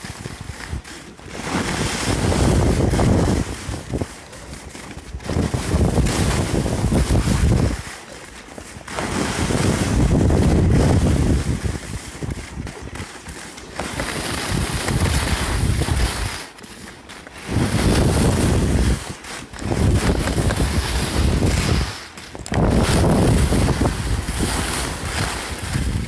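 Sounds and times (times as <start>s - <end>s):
wind buffeting microphone: 0.0s - 8.0s, 8.8s - 16.4s, 17.3s - 26.0s
skis hissing on snow: 0.0s - 26.0s.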